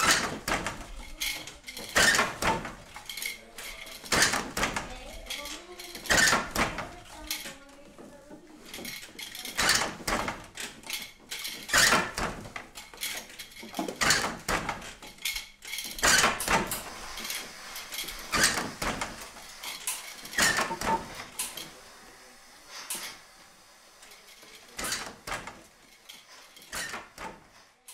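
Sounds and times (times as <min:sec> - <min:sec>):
wooden loom clacking: 0:00.0 - 0:21.8, 0:24.0 - 0:27.9.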